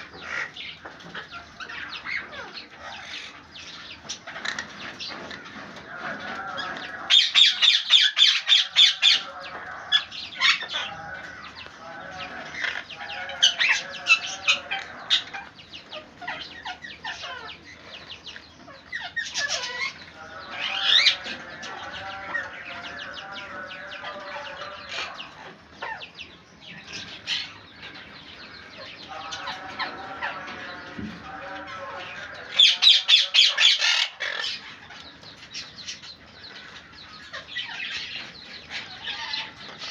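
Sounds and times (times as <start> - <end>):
parrots squawking: 0.0 - 18.0, 18.7 - 39.9.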